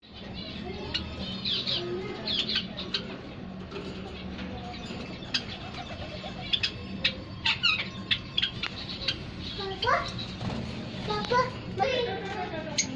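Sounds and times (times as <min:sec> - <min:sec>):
caged birds chirping: 0:00.0 - 0:12.9.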